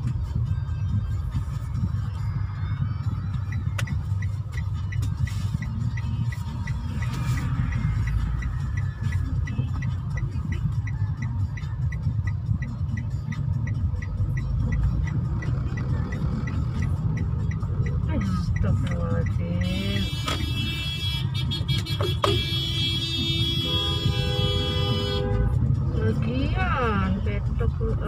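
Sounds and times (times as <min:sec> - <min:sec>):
car road and engine rumble: 0:00.0 - 0:28.0
turn signal ticking: 0:00.0 - 0:28.0.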